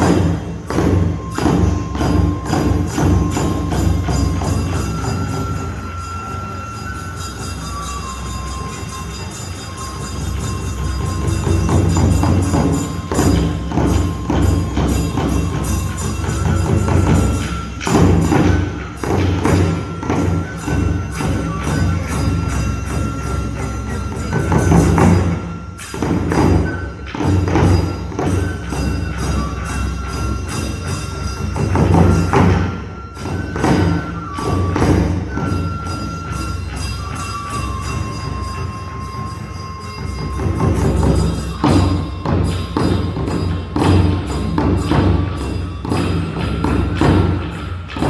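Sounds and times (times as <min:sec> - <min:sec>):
large drum beating: 0:00.0 - 0:05.9, 0:09.9 - 0:48.0.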